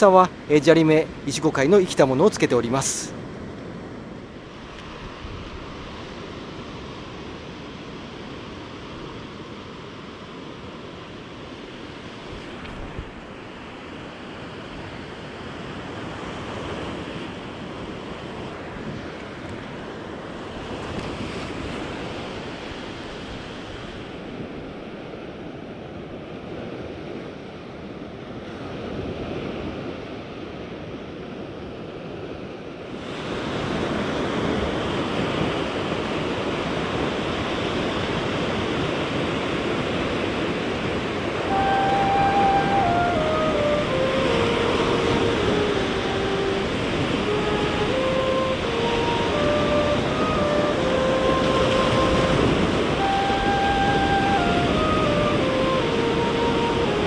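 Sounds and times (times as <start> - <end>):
waves breaking on sandy beach: 0.0 - 57.0.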